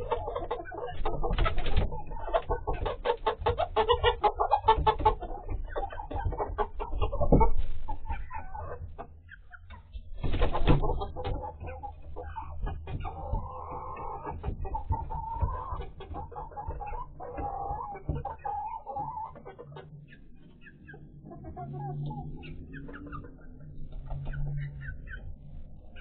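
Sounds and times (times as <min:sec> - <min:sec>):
hens clucking and squawking: 0:00.0 - 0:26.0.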